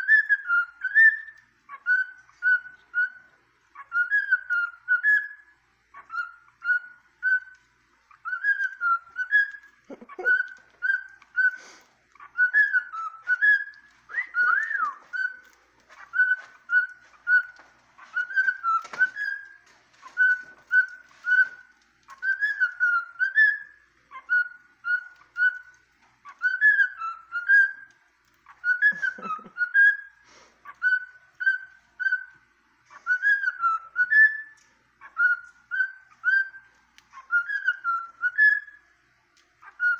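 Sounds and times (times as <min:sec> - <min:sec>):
cockatiel whistling: 0:00.0 - 0:38.9, 0:39.6 - 0:39.9.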